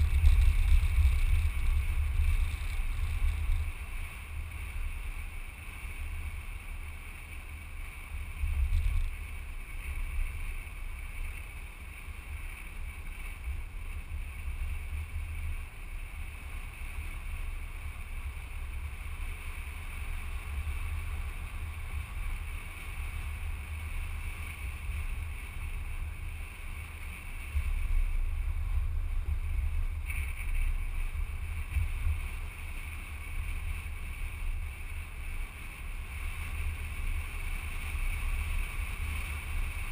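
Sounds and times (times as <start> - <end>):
driving noise hiss: 0.0 - 39.9
wind buffeting a microphone: 0.0 - 39.9.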